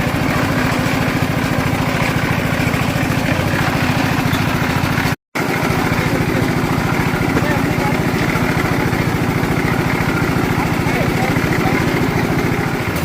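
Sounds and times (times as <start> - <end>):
concrete mixer engine running: 0.0 - 13.0.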